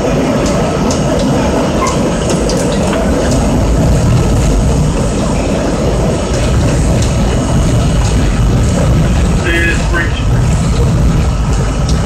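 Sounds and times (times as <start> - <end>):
subway wheels rumbling: 0.0 - 12.0.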